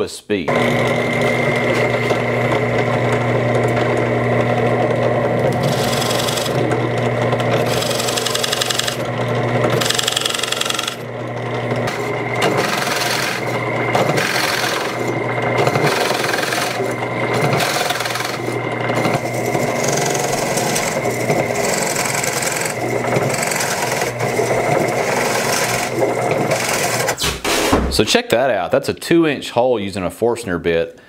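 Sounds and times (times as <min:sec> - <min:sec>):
drill press motor humming: 0:00.5 - 0:27.2
drill bit scraping wood: 0:00.5 - 0:27.8.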